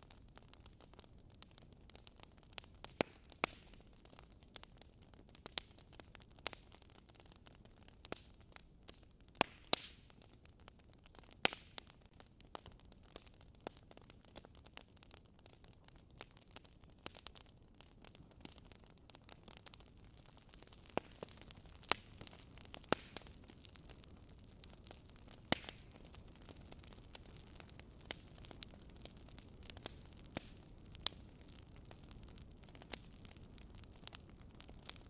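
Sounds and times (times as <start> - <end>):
faint steady hiss: 0.0 - 35.0
wood fire crackling: 0.0 - 35.0.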